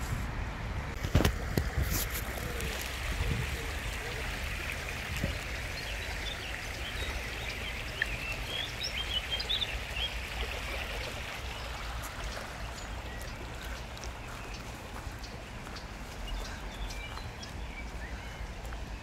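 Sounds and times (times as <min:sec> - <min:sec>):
stream babbling over stones: 0:01.0 - 0:19.0
small birds chirping: 0:03.6 - 0:19.0.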